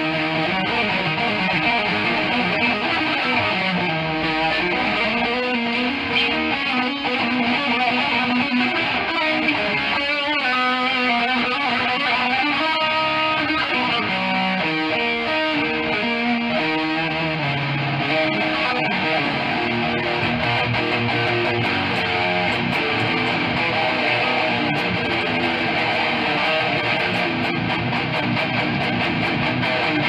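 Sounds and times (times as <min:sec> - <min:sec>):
electric guitar melody: 0:00.0 - 0:30.0.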